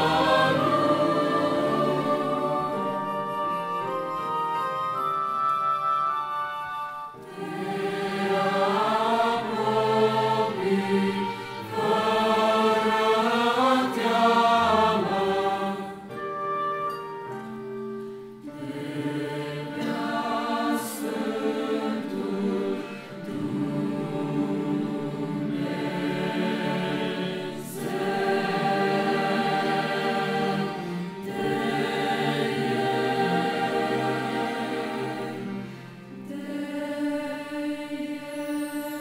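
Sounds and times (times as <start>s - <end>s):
choir singing a hymn: 0.0s - 5.0s, 6.2s - 16.4s, 18.4s - 39.0s.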